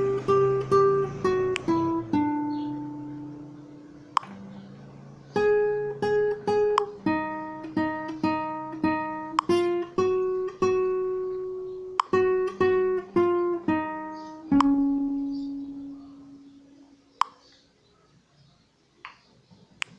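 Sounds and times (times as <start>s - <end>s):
acoustic guitar plucked notes: 0.0s - 17.2s.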